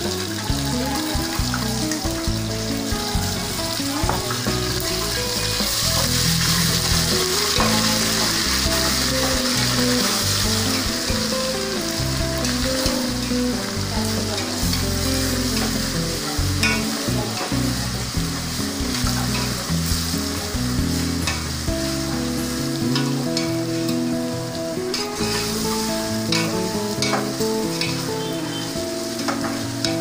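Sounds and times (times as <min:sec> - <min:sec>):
paste sizzling in hot fat: 0:00.0 - 0:30.0.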